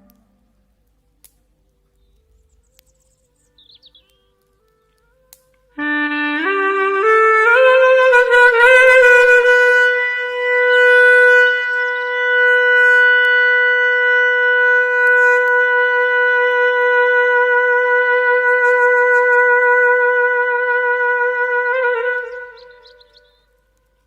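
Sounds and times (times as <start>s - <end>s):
clarinet holding long note: 4.2s - 24.0s.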